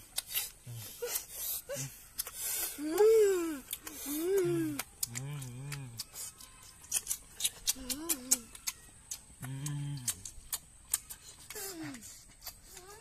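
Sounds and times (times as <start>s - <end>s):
hummed mmm sounds: 0.0s - 13.0s
wet chewing and lip-smacking: 0.0s - 13.0s.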